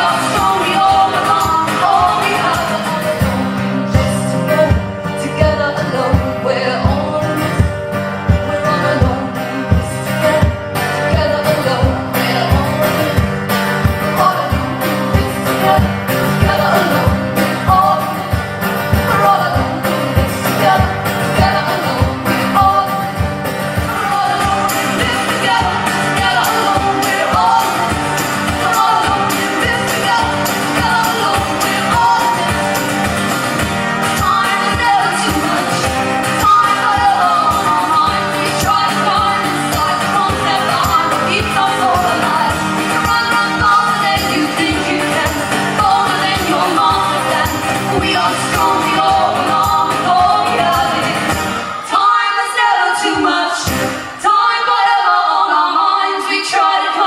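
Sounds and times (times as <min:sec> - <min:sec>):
folk-rock band playing: 0:00.0 - 0:55.0
person singing: 0:00.0 - 0:57.0.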